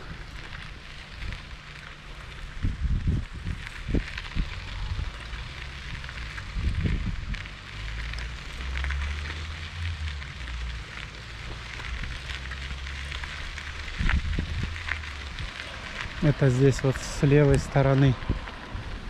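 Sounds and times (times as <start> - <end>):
crackling: 0.0 - 19.0
wind buffeting microphone: 0.0 - 19.0.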